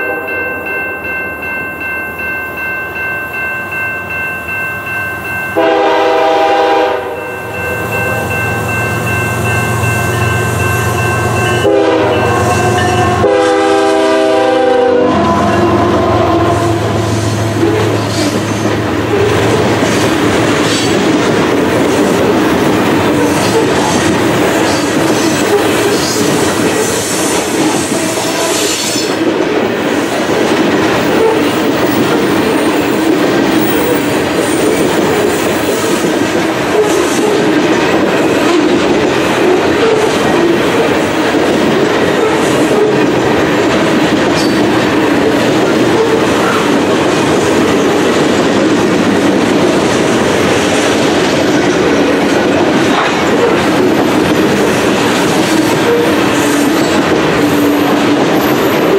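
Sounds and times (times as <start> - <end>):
steel train wheels rumbling on rails: 0.0 - 58.9.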